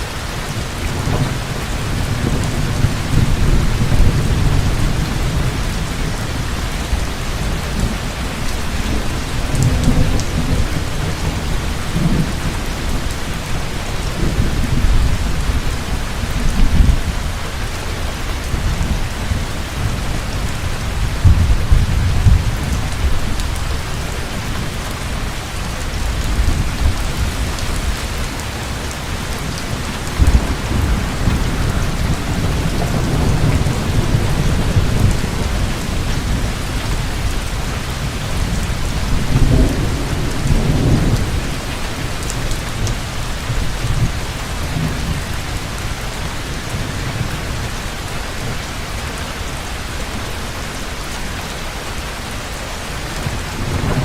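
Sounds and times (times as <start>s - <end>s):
heavy rain falling: 0.0s - 54.0s
thunder rumbling: 0.5s - 48.8s, 53.2s - 54.0s.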